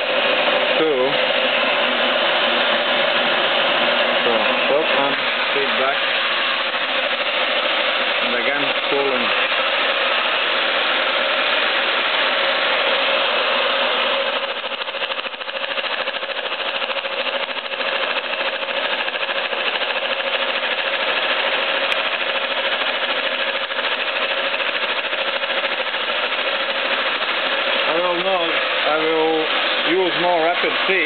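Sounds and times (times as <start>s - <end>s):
milling machine cutting metal: 0.0s - 31.0s.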